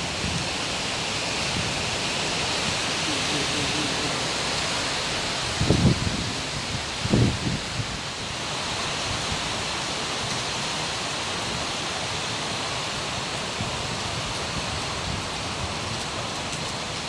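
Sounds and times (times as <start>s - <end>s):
heavy rain: 0.0s - 17.0s
strong storm wind: 0.0s - 17.0s.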